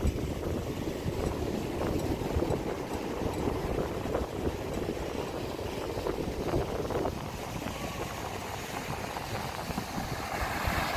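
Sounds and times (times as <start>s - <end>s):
ocean waves breaking: 0.0s - 10.9s
wind buffeting microphone: 0.0s - 10.9s.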